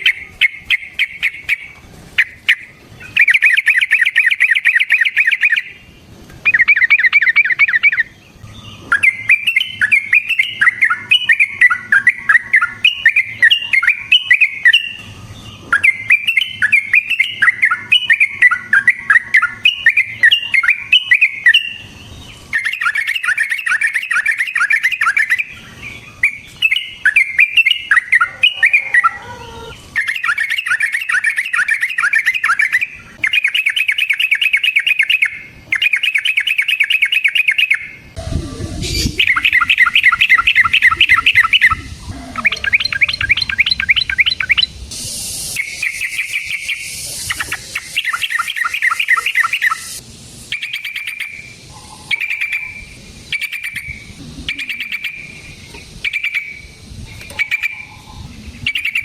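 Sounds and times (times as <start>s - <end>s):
bulbul rolling chattering song: 0.0s - 59.0s.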